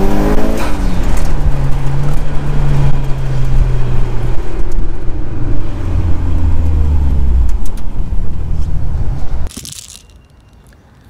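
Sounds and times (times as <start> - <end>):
car engine: 0.0 - 9.9
road noise: 0.0 - 11.0.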